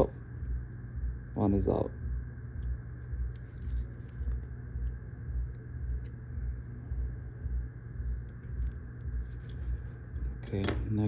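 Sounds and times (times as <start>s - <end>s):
low pulsing rumble: 0.0s - 10.4s.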